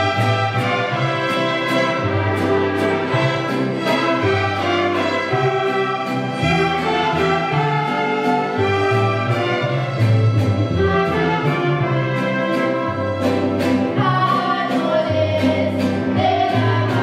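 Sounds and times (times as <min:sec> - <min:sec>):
bowed violins: 0:00.0 - 0:17.0
mariachi band playing: 0:00.0 - 0:17.0.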